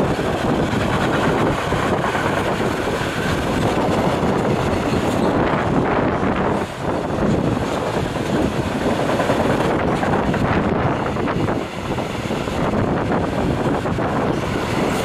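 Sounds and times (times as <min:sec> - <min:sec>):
train wheels rushing on rails: 0:00.0 - 0:15.0.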